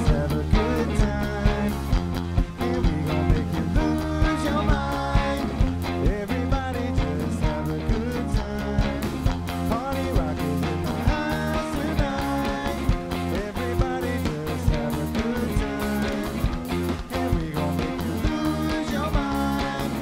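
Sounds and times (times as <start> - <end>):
drums on a steady beat: 0.0 - 20.0
electric bass: 0.0 - 20.0
electric guitar: 0.0 - 20.0.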